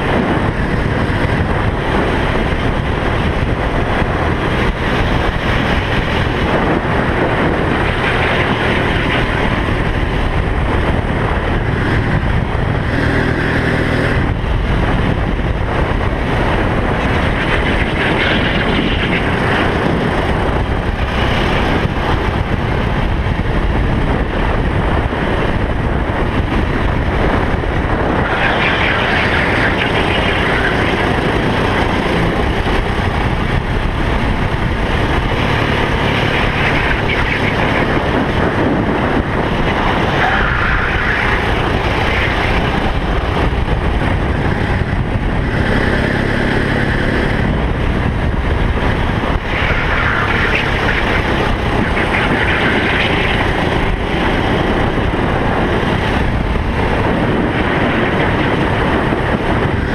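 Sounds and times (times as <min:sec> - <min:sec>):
racing kart engine: 0:00.0 - 0:59.9
wind noise on microphone: 0:00.0 - 0:59.9.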